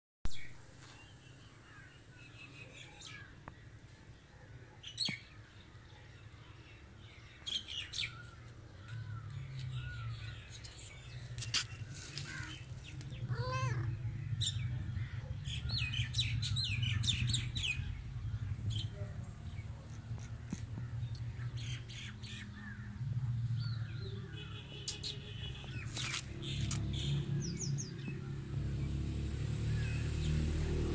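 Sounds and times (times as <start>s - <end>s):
small birds chirping: 0.3s - 30.7s.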